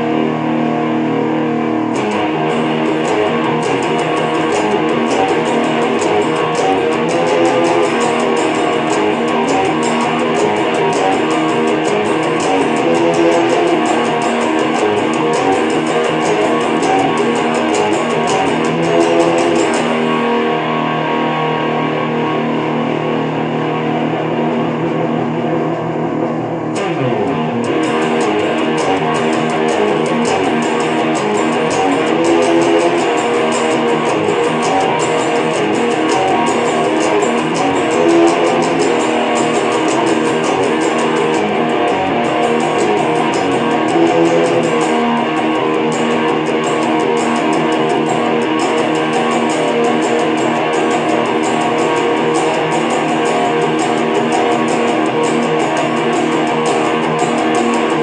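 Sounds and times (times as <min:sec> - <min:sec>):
guitar music: 0:00.0 - 0:58.0.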